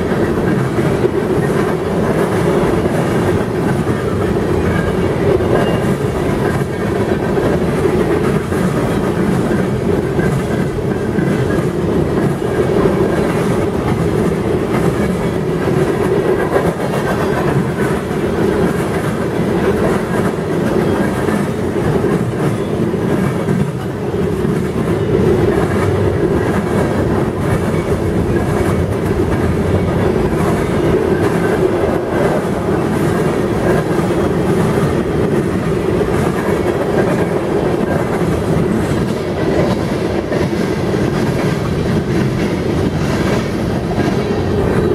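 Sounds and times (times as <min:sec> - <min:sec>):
freight train wheels on rails: 0:00.0 - 0:44.9.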